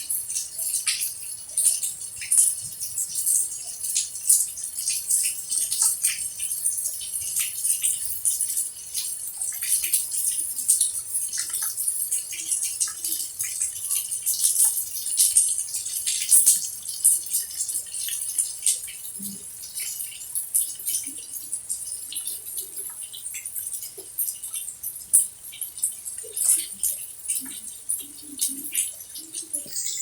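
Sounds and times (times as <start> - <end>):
rain pattering: 0.0 - 30.0
small drips and ticks: 0.0 - 30.0.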